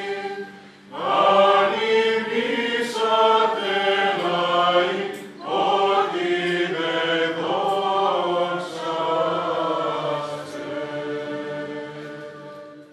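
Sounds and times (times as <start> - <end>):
voices chanting together: 0.0 - 12.9.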